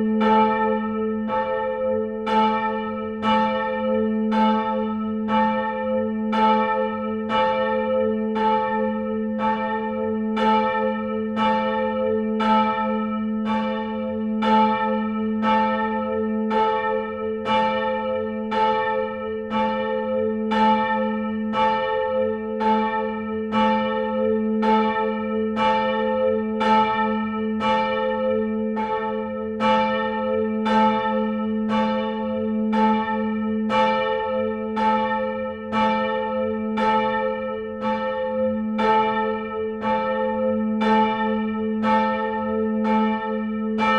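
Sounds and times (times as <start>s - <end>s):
church bell ringing: 0.0s - 43.9s.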